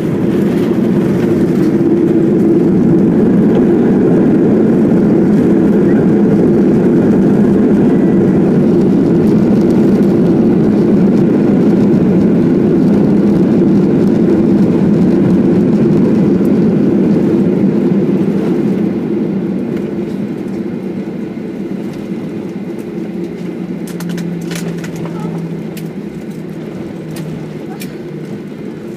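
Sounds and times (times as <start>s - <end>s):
jet engines and rushing air: 0.0s - 28.9s
low steady hum: 0.0s - 28.9s.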